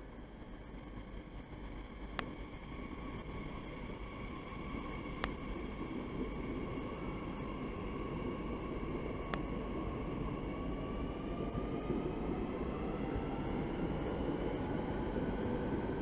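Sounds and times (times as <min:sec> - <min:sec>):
electric train motor whine: 0:00.0 - 0:16.0
train rumble: 0:00.0 - 0:16.0.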